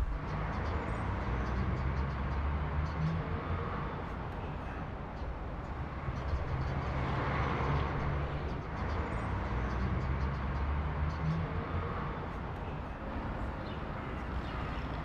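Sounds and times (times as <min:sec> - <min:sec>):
tyre road noise: 0:00.0 - 0:15.0.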